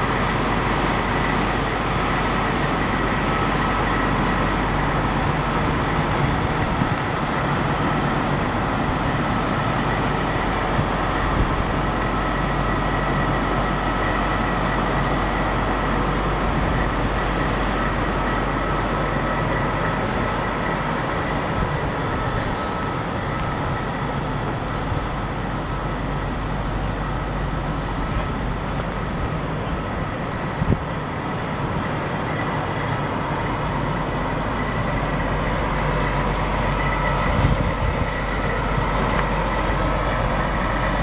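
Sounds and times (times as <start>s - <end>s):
vehicle engine idling: 0.0s - 41.0s.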